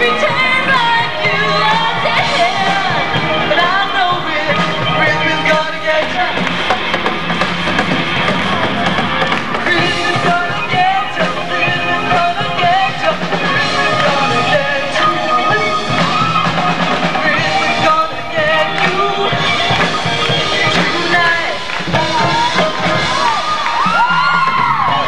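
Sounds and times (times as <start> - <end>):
lead vocalist singing: 0.0 - 6.9, 9.5 - 25.0
live pop-rock band: 0.0 - 25.0.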